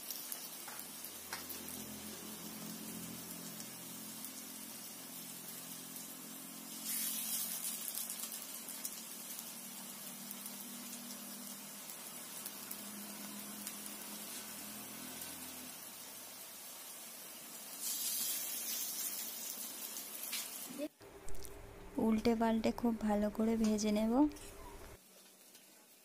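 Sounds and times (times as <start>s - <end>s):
fritters sizzling in hot oil: 0.0s - 21.6s, 22.8s - 26.0s.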